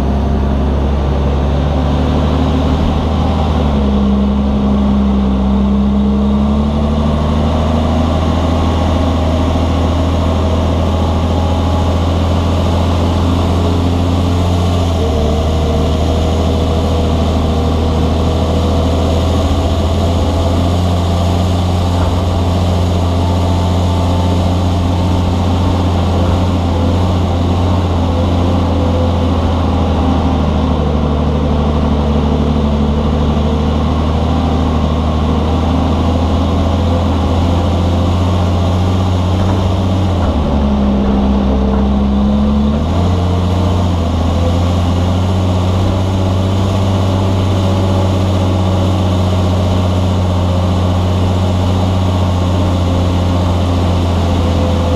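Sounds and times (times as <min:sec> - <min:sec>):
dump truck diesel engine drone: 0:00.0 - 0:54.9.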